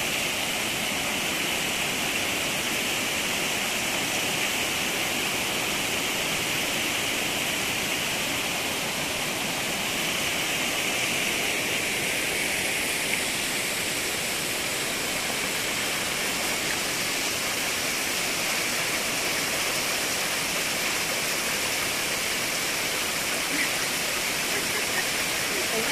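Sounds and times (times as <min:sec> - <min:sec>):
stream splashing over rocks: 0:00.0 - 0:25.9.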